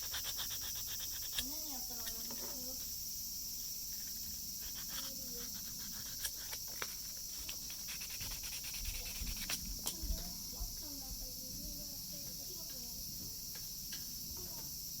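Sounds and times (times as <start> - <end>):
high-pitched background hiss: 0.0 - 15.0.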